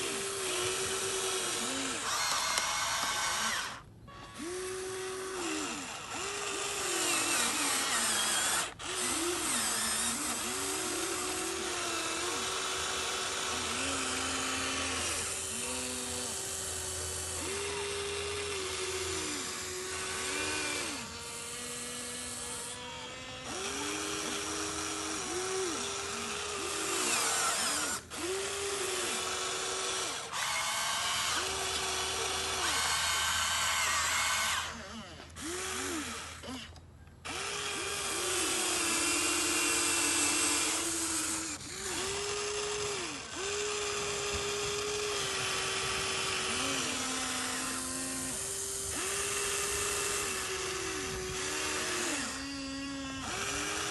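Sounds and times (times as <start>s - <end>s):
electric motors whining: 0.0s - 53.9s.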